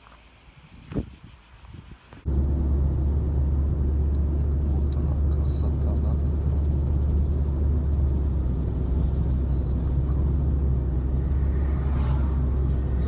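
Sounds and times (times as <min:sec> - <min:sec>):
car driving heard from inside: 0:02.3 - 0:13.0.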